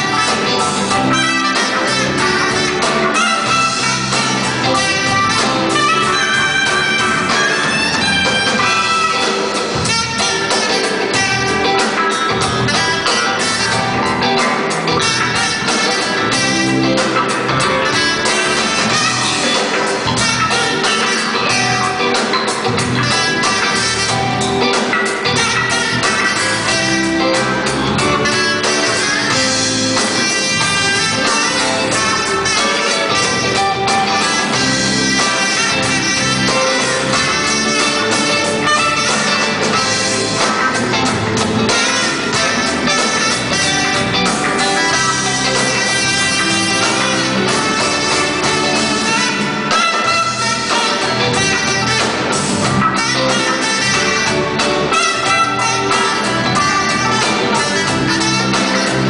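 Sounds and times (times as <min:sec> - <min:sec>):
drum kit: 0:00.0 - 0:59.0
electric guitar: 0:00.0 - 0:59.0
keyboards: 0:00.0 - 0:59.0
soprano saxophone melody: 0:00.0 - 0:59.0.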